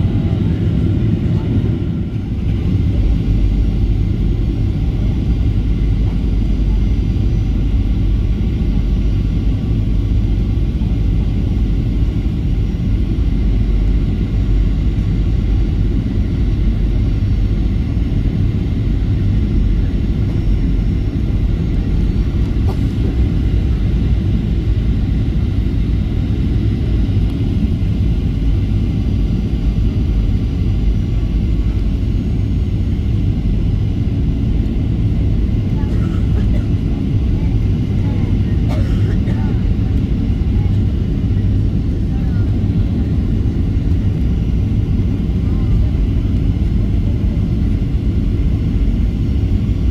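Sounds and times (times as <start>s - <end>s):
aircraft cabin engine roar: 0.0s - 49.9s.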